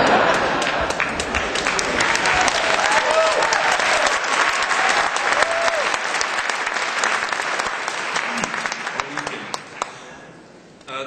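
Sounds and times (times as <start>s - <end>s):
audience clapping: 0.0s - 10.3s.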